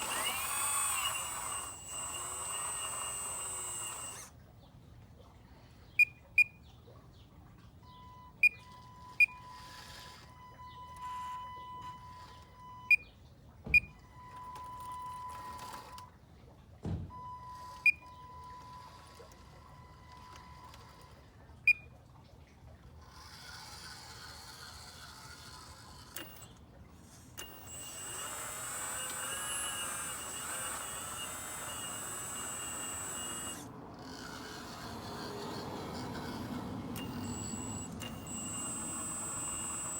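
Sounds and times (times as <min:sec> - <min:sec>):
hydraulic pump whining: 0:00.0 - 0:04.4, 0:07.9 - 0:16.2, 0:16.8 - 0:22.0, 0:22.9 - 0:39.9.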